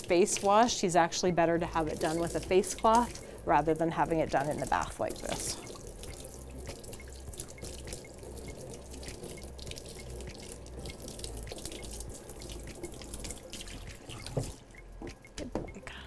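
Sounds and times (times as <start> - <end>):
sprayer water splashing: 0.0 - 1.0, 1.6 - 14.6.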